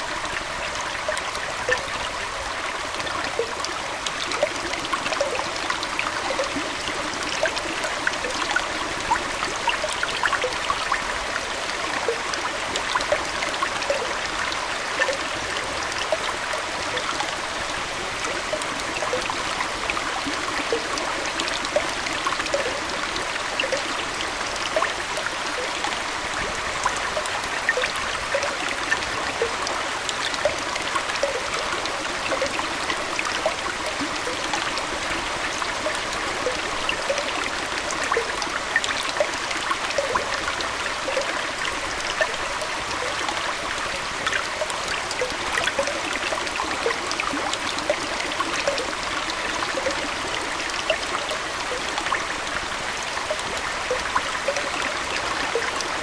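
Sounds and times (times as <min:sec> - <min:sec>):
aquarium water flowing: 0:00.0 - 0:56.0
small bubbling plinks: 0:00.0 - 0:56.0.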